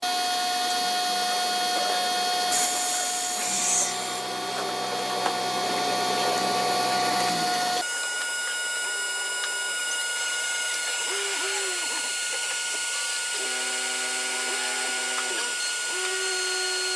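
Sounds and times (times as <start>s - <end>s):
cnc router whine: 0.0s - 16.9s.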